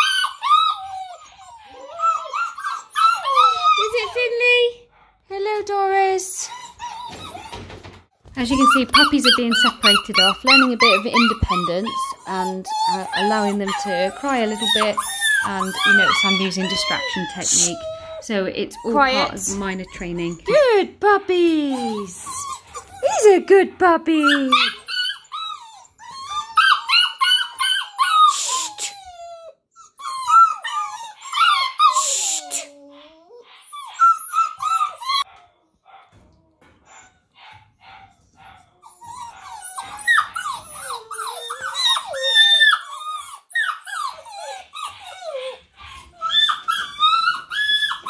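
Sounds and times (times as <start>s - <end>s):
puppy yelps: 0.0s - 4.3s, 6.4s - 7.9s, 8.5s - 18.2s, 21.8s - 23.3s, 24.2s - 36.1s, 36.9s - 48.0s
puppy whining and howling: 0.0s - 4.6s, 6.4s - 20.8s, 21.5s - 23.4s, 24.1s - 48.0s.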